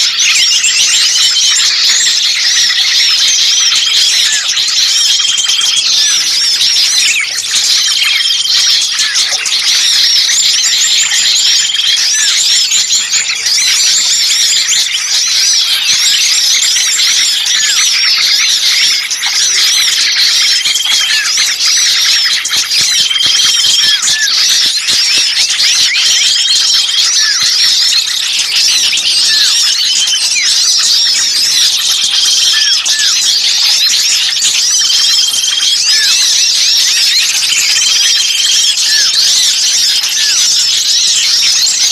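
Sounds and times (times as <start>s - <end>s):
songbirds chirping and twittering: 0.0s - 41.9s.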